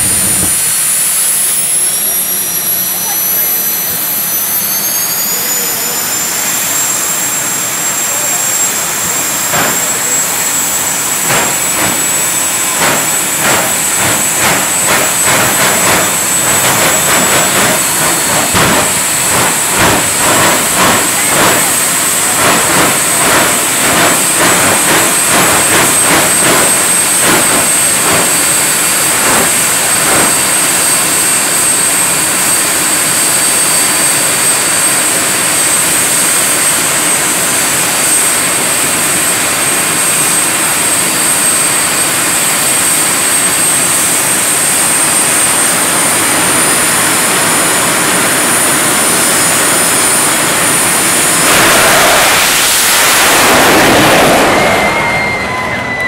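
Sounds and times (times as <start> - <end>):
turbine engines roaring: 0.0 - 56.0.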